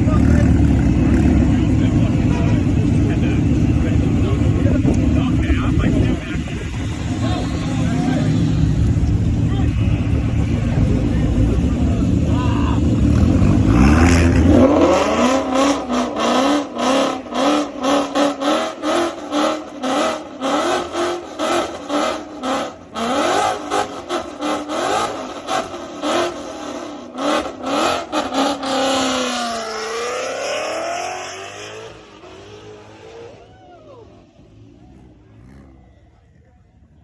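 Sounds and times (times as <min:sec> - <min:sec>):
car engine revving with cracks: 0:00.0 - 0:33.4
car accelerating away: 0:00.0 - 0:37.0.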